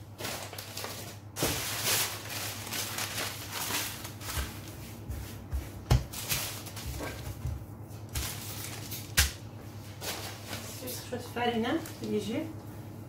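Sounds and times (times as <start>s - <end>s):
baking paper rustling and crinkling: 0.0s - 12.5s.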